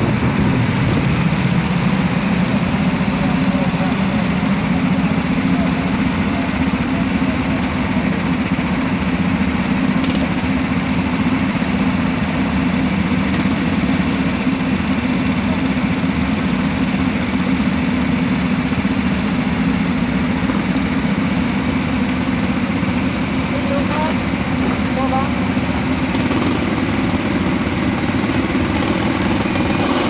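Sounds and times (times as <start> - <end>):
go-kart engines idling: 0.0 - 30.0.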